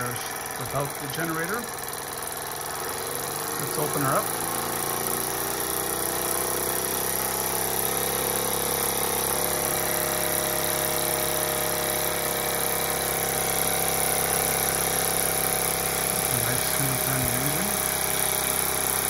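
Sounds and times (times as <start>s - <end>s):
toy steam engine running: 0.0s - 19.0s.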